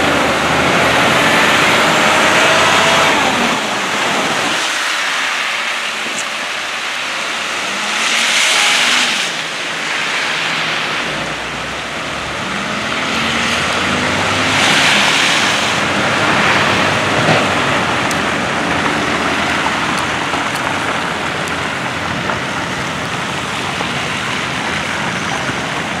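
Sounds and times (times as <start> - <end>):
truck engine: 0.0 - 26.0
tyres and plow blades through wet snow: 0.0 - 26.0.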